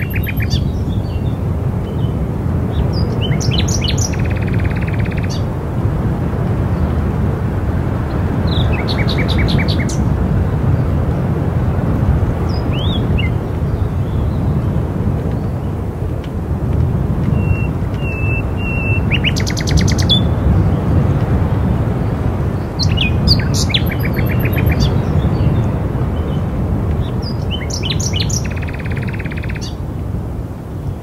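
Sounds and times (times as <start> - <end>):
songbirds chirping and trilling: 0.0 - 5.6, 6.6 - 16.1, 17.2 - 29.8
low wind rumble: 0.0 - 31.0.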